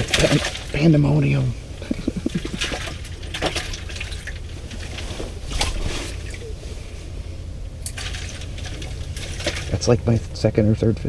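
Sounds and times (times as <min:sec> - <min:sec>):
light wet sloshing: 0:00.0 - 0:10.1
steady low rumble: 0:00.0 - 0:11.0.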